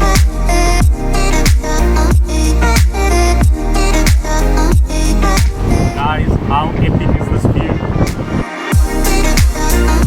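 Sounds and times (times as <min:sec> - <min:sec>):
upbeat electronic music: 0:00.0 - 0:10.0.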